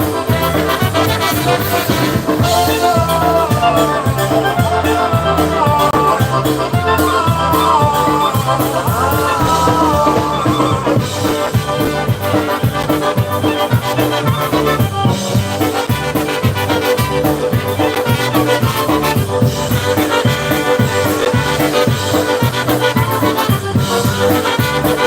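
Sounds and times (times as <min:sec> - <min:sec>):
polka band playing: 0:00.0 - 0:25.0.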